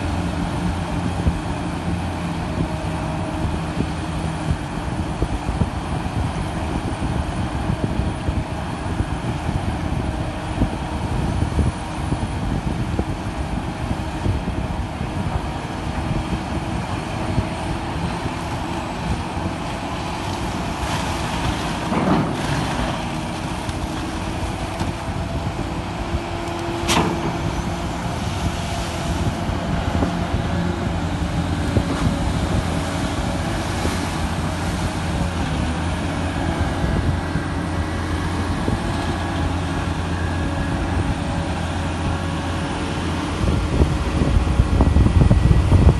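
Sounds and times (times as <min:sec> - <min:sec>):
diesel machinery droning: 0:00.0 - 0:45.9.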